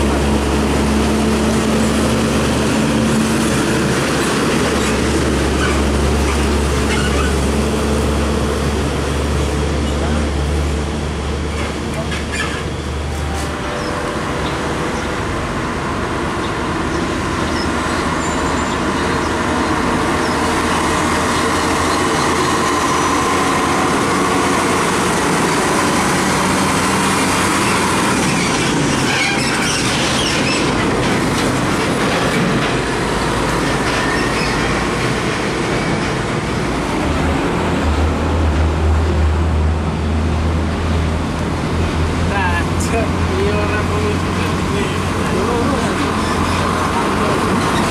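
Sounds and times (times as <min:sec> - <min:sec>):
trailer rattling over road: 0:00.0 - 0:47.9.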